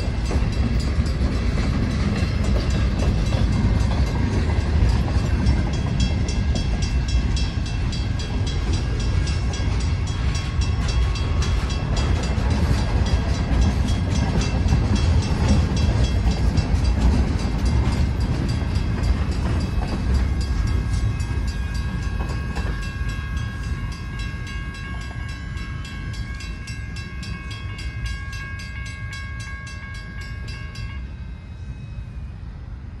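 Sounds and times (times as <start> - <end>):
crossing bell ringing: 0.0 - 32.5
freight train wheels rumbling: 0.0 - 33.0.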